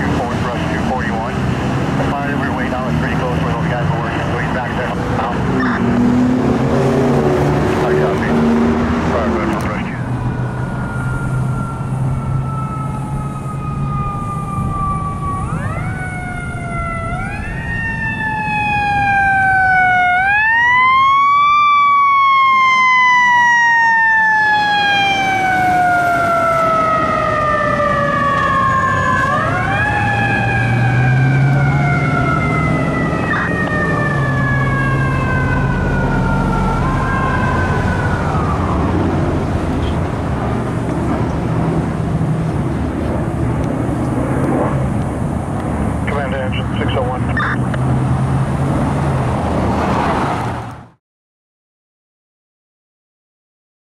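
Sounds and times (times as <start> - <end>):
fire engine siren wailing: 0.0 - 51.0
truck and traffic rumble: 0.0 - 51.0.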